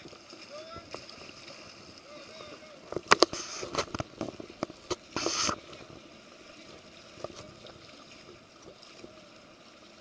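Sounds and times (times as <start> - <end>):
kayak paddles splashing water: 0.0 - 10.0
water washing: 0.0 - 10.0.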